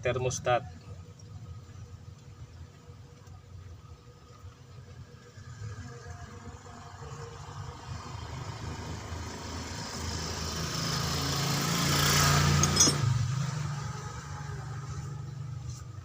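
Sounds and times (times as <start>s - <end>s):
vehicle engine running: 1.0s - 16.0s.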